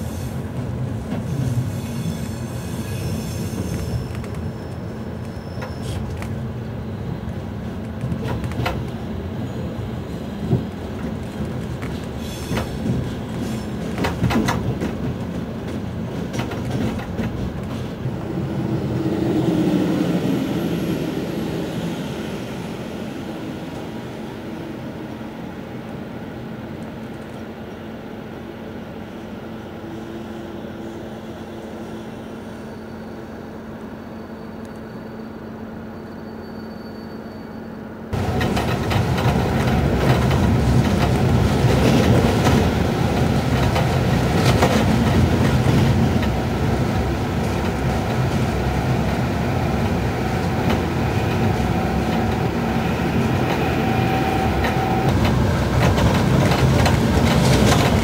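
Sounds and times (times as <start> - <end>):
train rumbling and rattling: 0.0 - 37.1, 37.8 - 58.0
train coach hum: 0.0 - 58.0.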